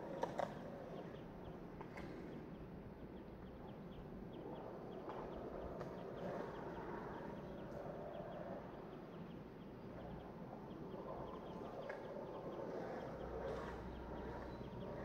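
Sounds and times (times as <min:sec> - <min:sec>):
skateboard wheels on asphalt: 0:00.0 - 0:02.8, 0:04.4 - 0:09.2, 0:10.3 - 0:15.0.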